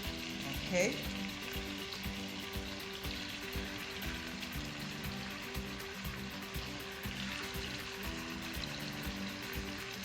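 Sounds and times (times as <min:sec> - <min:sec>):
chicken sizzling in hot oil: 0:00.0 - 0:10.0
quiet background music: 0:00.0 - 0:10.0.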